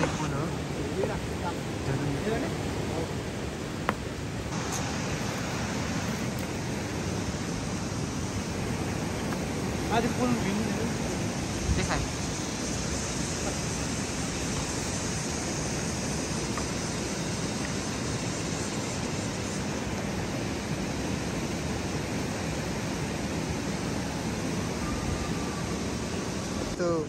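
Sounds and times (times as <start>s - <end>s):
river flowing: 0.0s - 27.0s.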